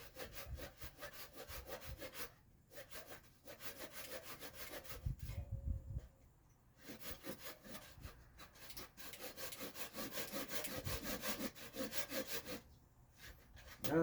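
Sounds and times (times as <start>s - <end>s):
hand saw cutting wood: 0.0s - 5.4s, 6.8s - 14.0s.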